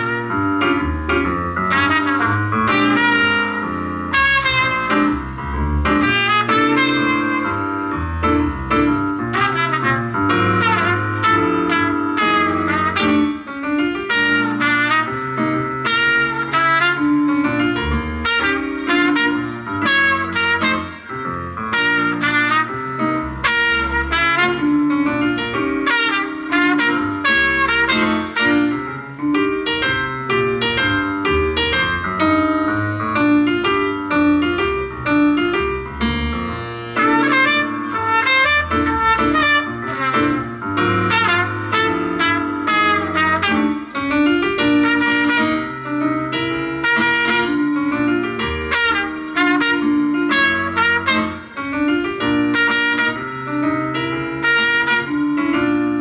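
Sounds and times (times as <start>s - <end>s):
jazz music: 0.0s - 56.0s.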